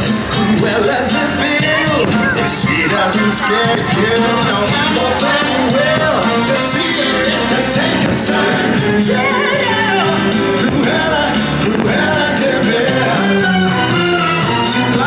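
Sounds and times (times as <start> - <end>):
song with person singing: 0.0 - 15.0.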